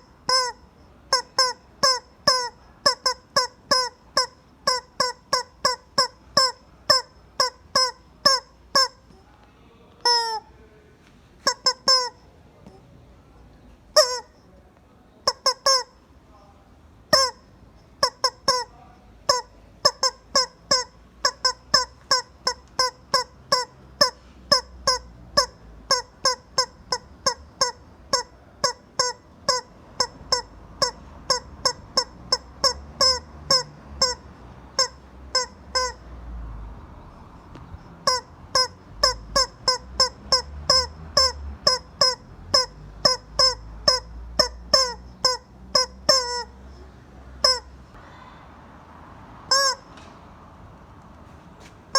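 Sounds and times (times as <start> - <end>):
rubber chicken toy squawking: 0.0 - 9.2, 10.0 - 10.5, 11.4 - 12.8, 13.9 - 14.4, 15.2 - 16.1, 17.1 - 36.1, 37.0 - 48.0, 49.5 - 50.0.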